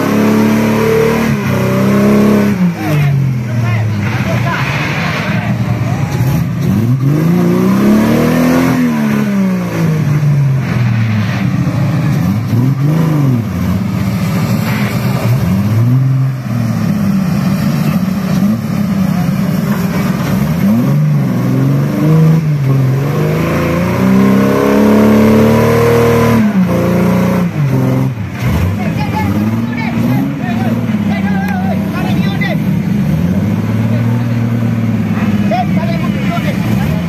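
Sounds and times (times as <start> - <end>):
buggy engine revving: 0.0 - 37.0.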